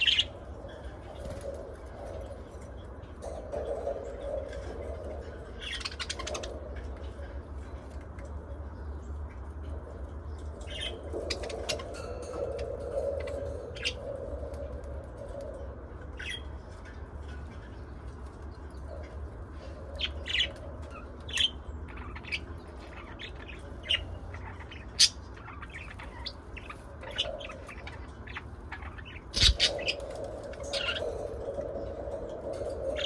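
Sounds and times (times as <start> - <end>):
birds chirping and squawking: 0.0 - 33.0
steady low hum: 0.0 - 33.0.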